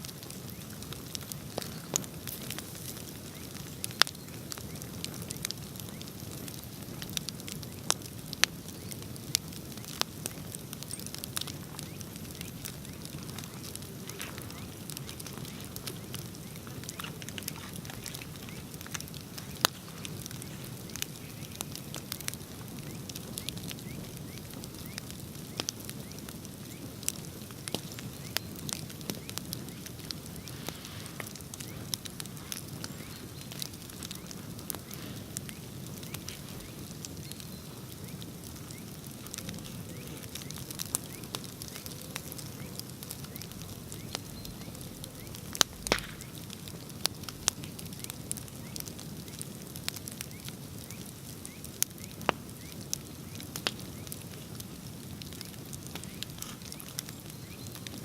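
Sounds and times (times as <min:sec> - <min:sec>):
bonfire crackling and popping: 0:00.0 - 0:58.0.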